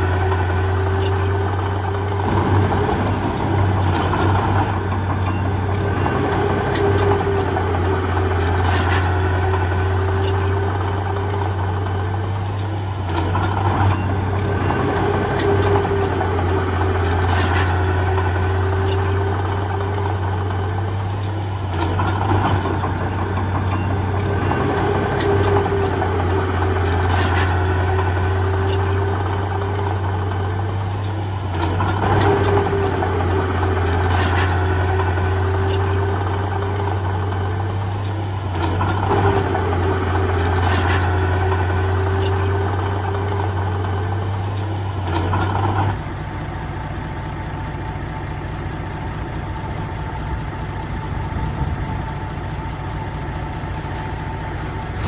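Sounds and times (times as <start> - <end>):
heavy diesel engine running: 0.0 - 55.0
high machine whine: 0.0 - 55.0.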